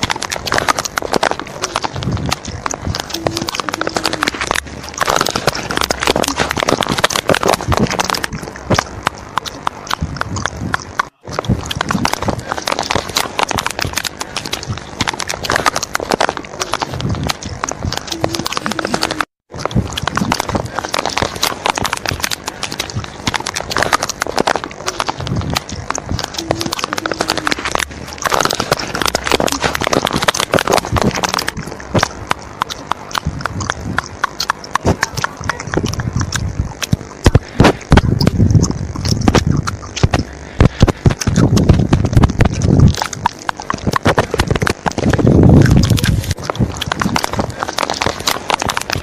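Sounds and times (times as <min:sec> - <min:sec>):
rapid irregular clicks and taps: 0:00.0 - 0:49.0.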